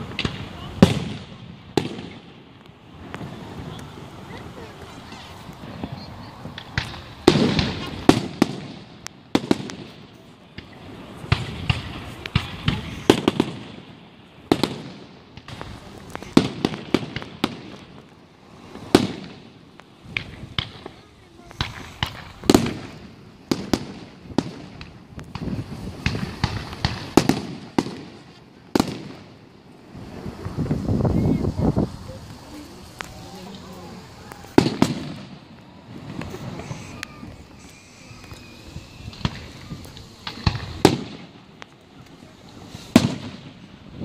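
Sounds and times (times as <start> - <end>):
fireworks bangs: 0.0 - 44.0.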